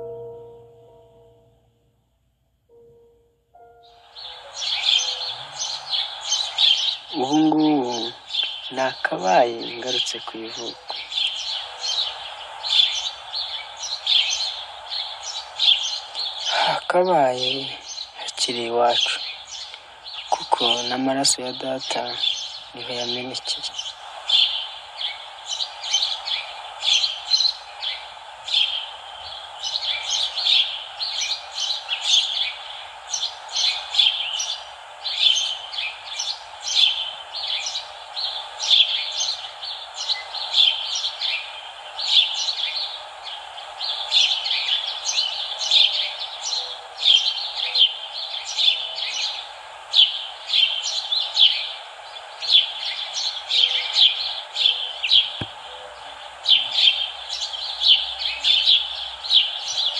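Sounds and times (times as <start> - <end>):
songbirds chirping: 2.7 - 59.9
steady background noise: 3.6 - 59.9.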